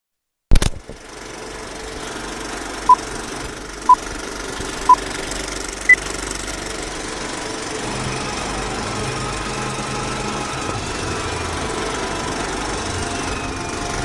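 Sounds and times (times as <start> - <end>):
mechanical rattle and whir: 0.6 - 14.0.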